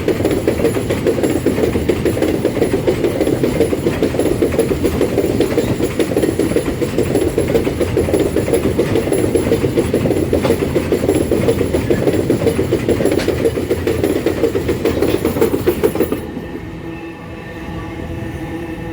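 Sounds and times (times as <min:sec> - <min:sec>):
wheels clattering on rails: 0:00.0 - 0:16.6
freight train rumbling past: 0:00.0 - 0:18.9.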